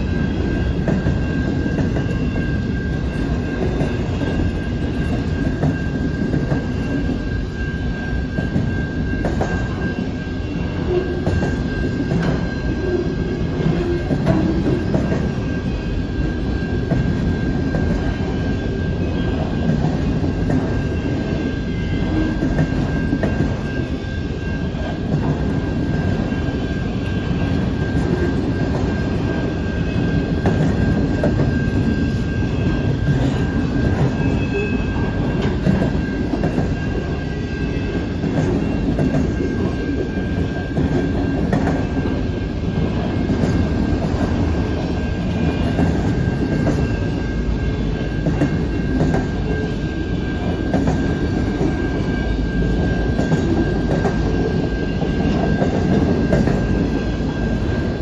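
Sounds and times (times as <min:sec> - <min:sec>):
train wheels rumbling on rail: 0:00.0 - 0:58.0
wheels clacking over rail joints: 0:08.2 - 0:24.1, 0:24.7 - 0:57.6.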